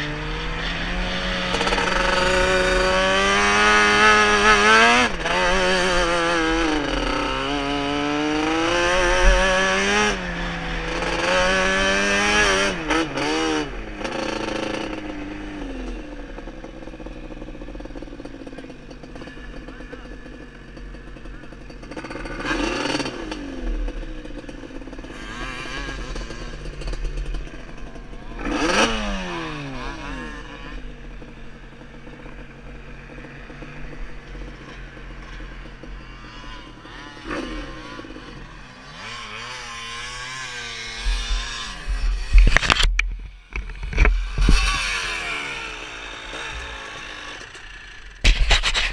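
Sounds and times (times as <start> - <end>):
quad engine revving: 0.0 - 48.9.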